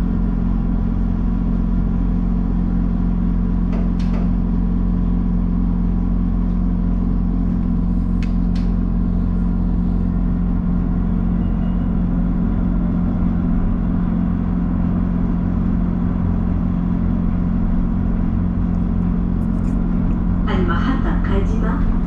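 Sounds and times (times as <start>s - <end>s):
constant hum: 0.0s - 22.0s
tram rumbling on track: 0.0s - 22.0s.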